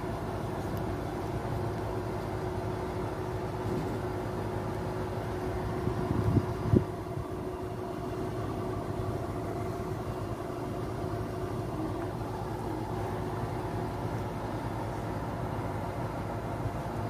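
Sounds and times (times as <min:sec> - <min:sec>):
crane engine rumbling: 0:00.0 - 0:17.0
steady whine: 0:00.0 - 0:17.0.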